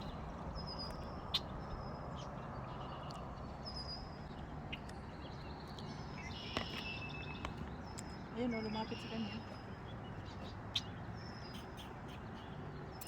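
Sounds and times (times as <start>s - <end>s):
small birds calling: 0.0s - 13.0s.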